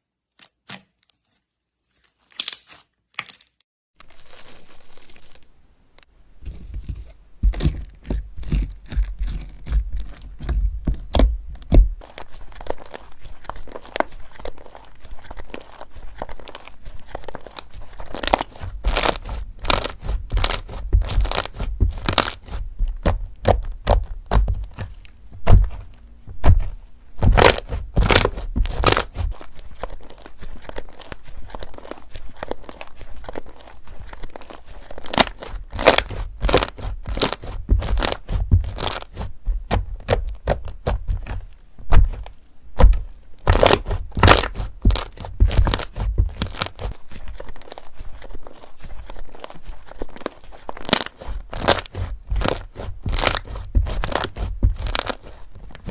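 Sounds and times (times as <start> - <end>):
slime crackling and popping: 8.4 - 55.9.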